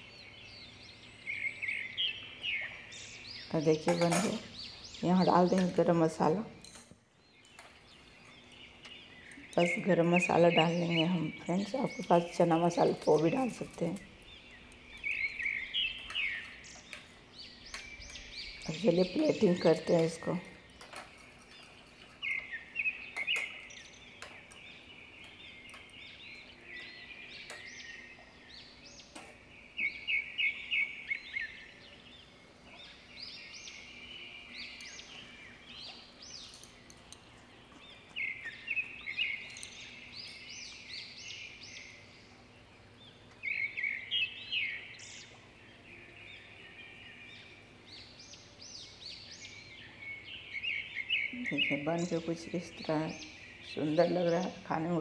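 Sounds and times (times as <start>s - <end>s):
birds chirping: 0.0s - 55.0s
faint steady hum: 0.0s - 55.0s.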